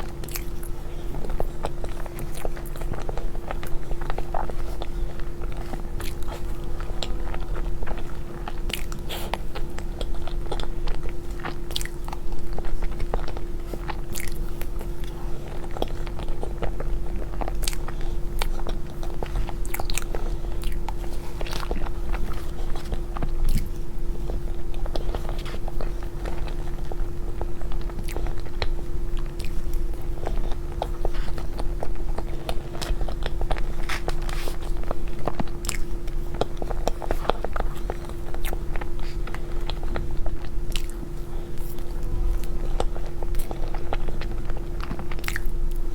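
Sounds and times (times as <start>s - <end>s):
person chewing cake: 0.0s - 45.9s
steady low hum: 0.0s - 45.9s.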